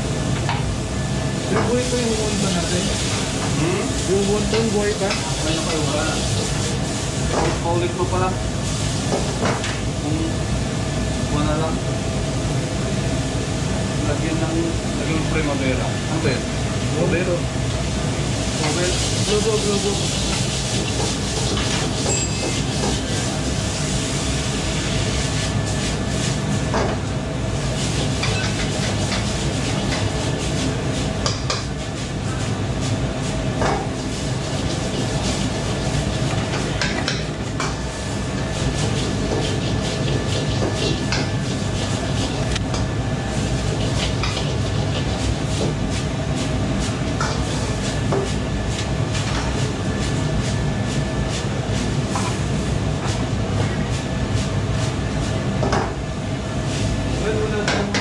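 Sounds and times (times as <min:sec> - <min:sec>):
gas burner rushing: 0:00.0 - 0:58.0.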